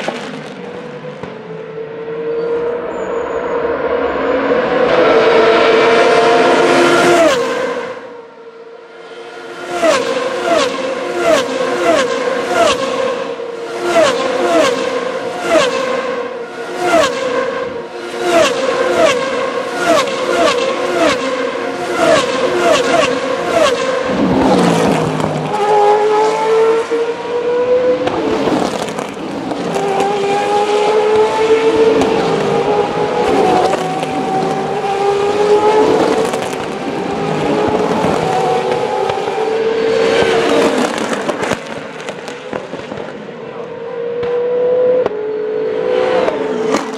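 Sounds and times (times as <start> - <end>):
engines blipping on downshifts: 0.0 - 46.9
race car engines accelerating: 0.0 - 46.9
race car passing close: 0.1 - 46.9.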